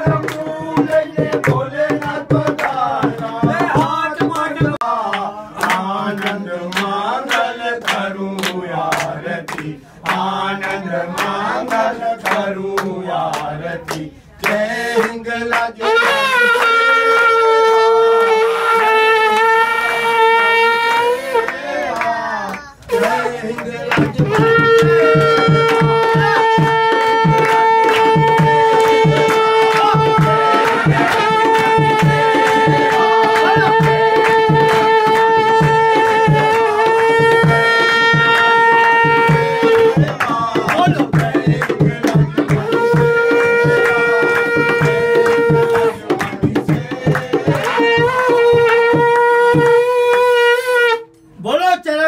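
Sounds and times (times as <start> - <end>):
steady drum beat: 0.0 - 15.6, 22.9 - 50.6
hands clapping along: 0.0 - 18.0, 20.8 - 50.8.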